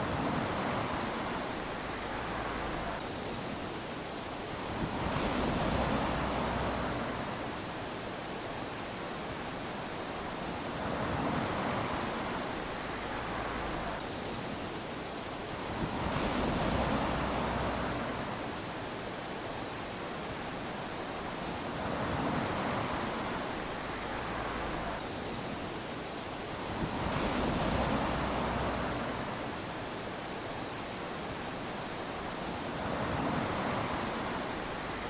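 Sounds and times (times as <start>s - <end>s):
small waves washing onto beach: 0.0s - 35.0s.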